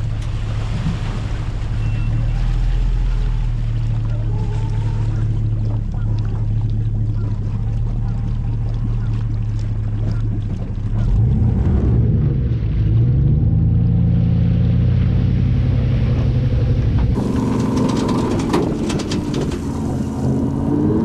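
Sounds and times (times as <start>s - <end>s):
boat engines idling: 0.0s - 21.0s.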